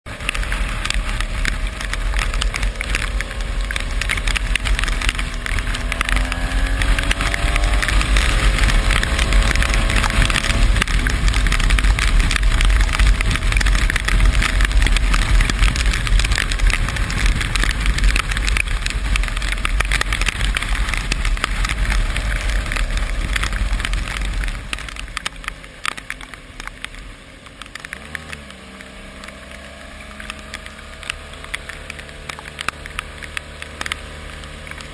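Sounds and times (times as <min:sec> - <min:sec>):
vehicle engine: 0:00.0 - 0:34.9
wind and rain buffeting microphone: 0:00.1 - 0:34.9.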